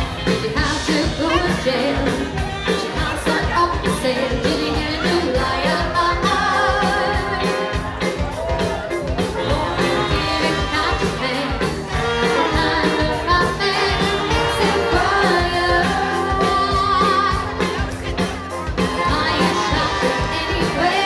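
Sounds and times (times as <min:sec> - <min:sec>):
live band playing pop song: 0:00.0 - 0:21.0
lead singer singing: 0:00.3 - 0:18.2, 0:18.8 - 0:21.0.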